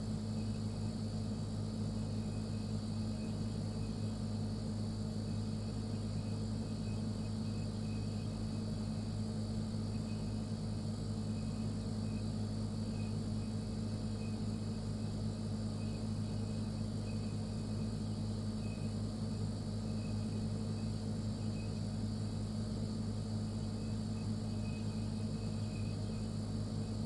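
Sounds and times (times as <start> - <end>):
refrigerator humming: 0.0 - 27.0.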